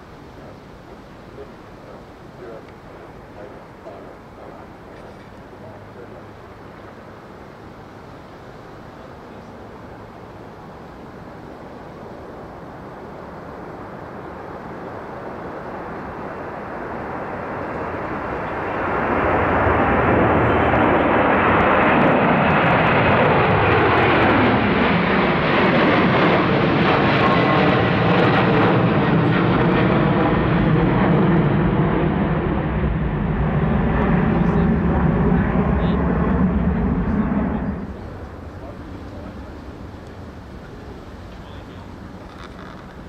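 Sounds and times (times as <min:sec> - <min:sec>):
airliner engines passing: 0:00.0 - 0:43.0.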